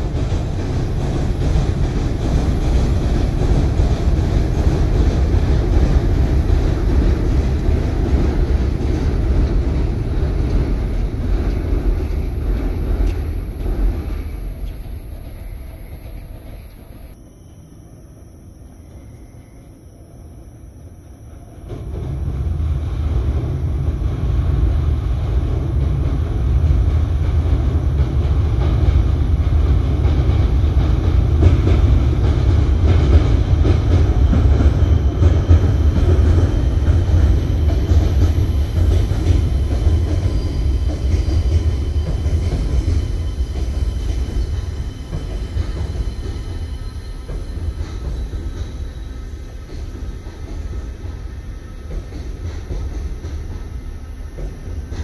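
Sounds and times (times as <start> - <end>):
train wheels rumbling on bridge: 0.0 - 17.2, 18.7 - 55.0.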